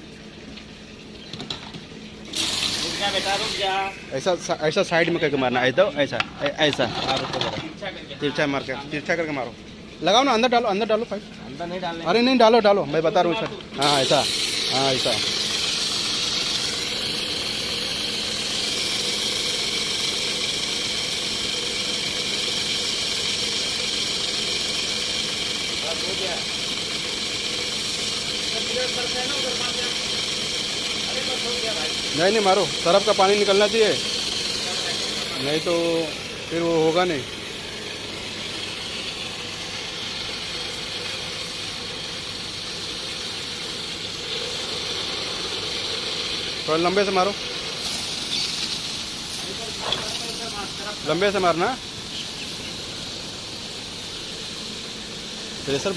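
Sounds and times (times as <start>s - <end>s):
pump humming: 0.0s - 55.9s
pressure washer water jet hiss: 2.3s - 5.4s, 13.8s - 55.9s.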